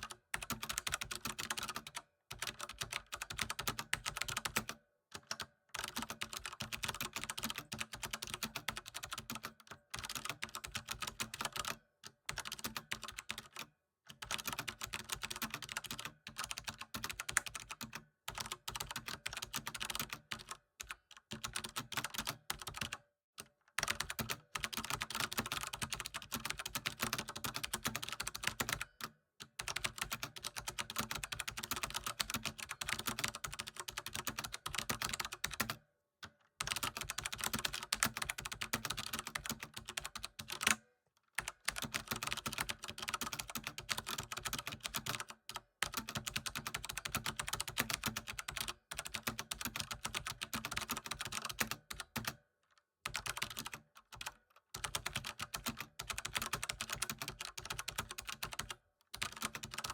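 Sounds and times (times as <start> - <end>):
computer keyboard typing: 0.0 - 35.8, 36.6 - 40.8, 41.4 - 52.4, 53.0 - 59.9.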